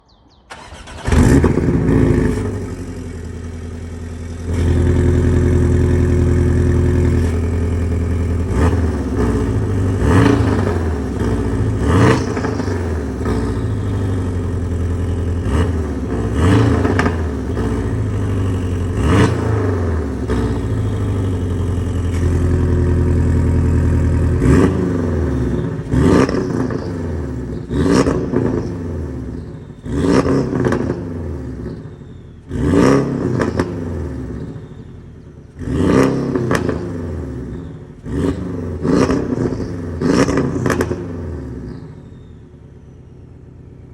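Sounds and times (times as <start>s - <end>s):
car engine revving: 0.5s - 34.8s, 35.4s - 42.1s.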